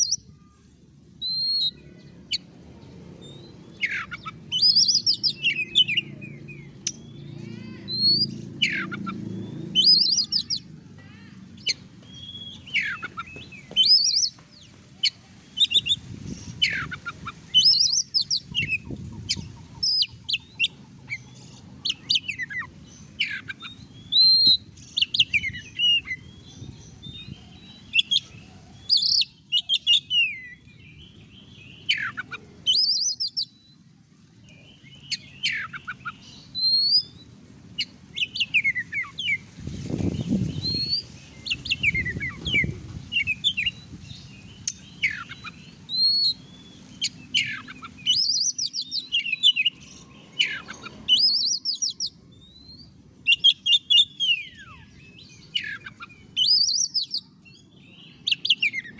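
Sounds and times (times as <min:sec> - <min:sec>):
songbird singing: 0:00.0 - 0:58.9.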